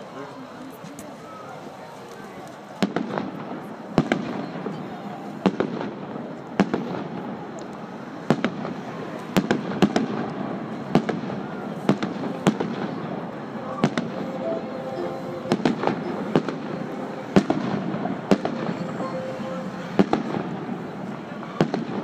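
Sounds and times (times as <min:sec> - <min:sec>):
crowd voices: 0:00.0 - 0:22.0
fireworks bangs: 0:02.8 - 0:22.0.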